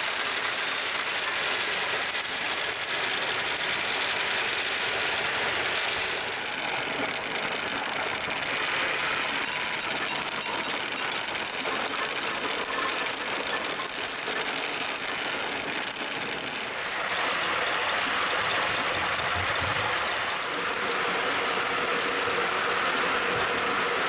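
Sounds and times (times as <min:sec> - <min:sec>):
glass marbles rattling down wooden run: 0:00.0 - 0:20.1.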